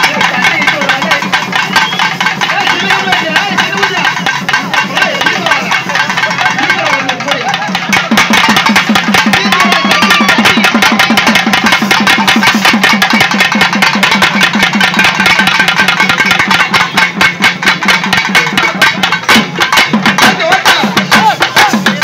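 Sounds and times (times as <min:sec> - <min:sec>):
stick-beaten drums fast beat: 0:00.0 - 0:22.0.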